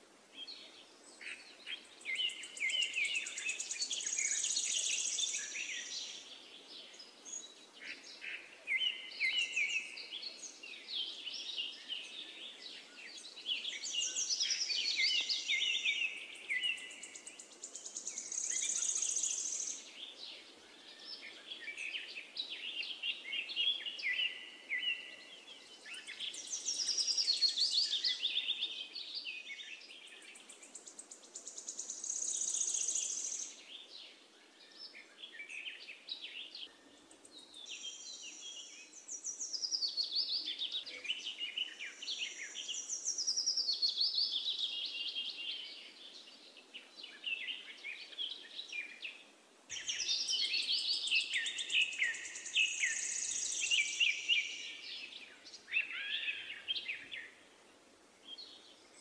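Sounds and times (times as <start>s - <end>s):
birds chirping and trilling: 0.4s - 57.6s.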